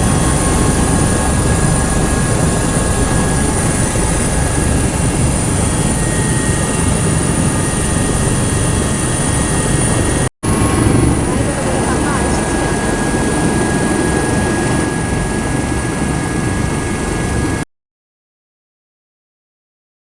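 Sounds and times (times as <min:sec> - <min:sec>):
helicopter turbine and rotor: 0:00.0 - 0:17.6.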